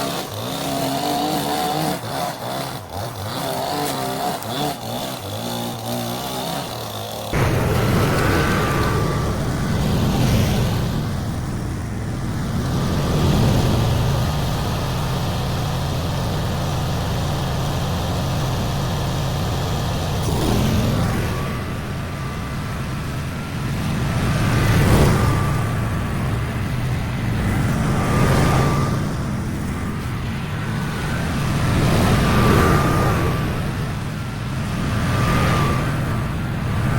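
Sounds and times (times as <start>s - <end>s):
lawn mower engine running: 0.0s - 36.9s.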